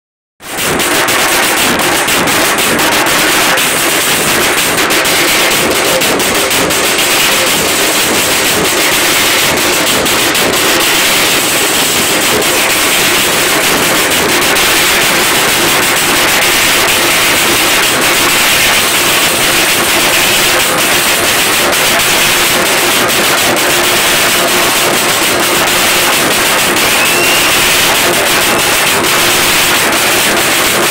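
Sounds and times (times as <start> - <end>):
drums beaten hard: 0.4 - 30.9.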